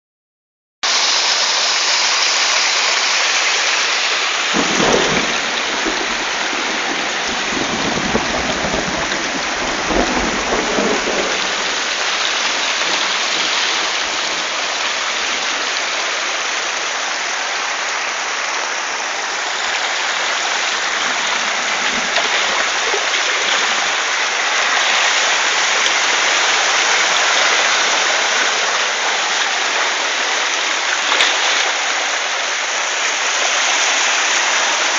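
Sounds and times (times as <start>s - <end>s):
heavy rain pouring: 0.8s - 34.9s.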